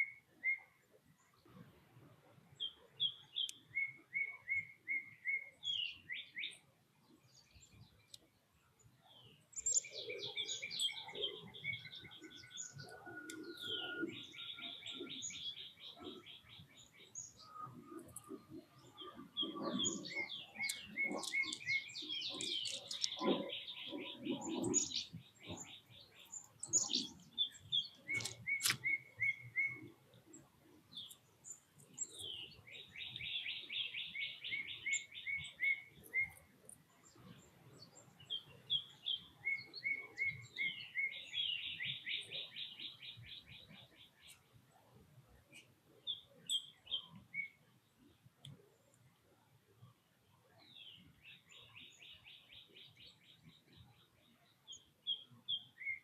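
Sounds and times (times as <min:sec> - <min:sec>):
songbirds chirping trills: 0:00.0 - 0:56.0.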